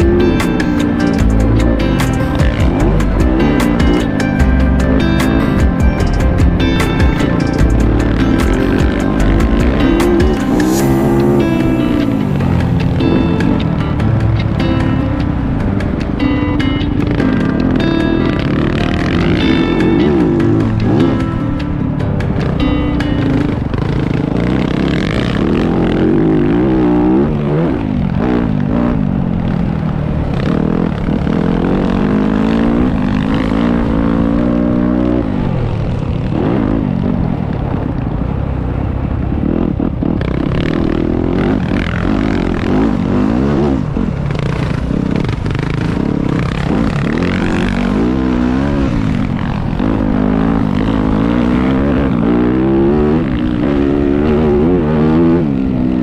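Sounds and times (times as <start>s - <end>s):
motocross bike engine revving: 0.0s - 14.7s, 15.4s - 38.0s, 39.2s - 56.0s.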